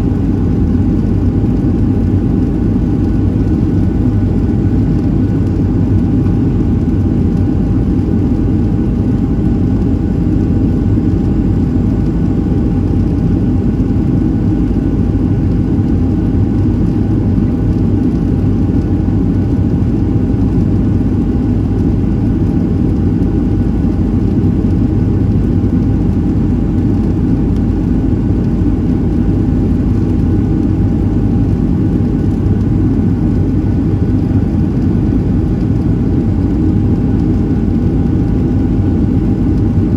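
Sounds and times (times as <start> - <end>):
aircraft cabin rumble: 0.0 - 39.9
faint steady hum: 0.0 - 39.9.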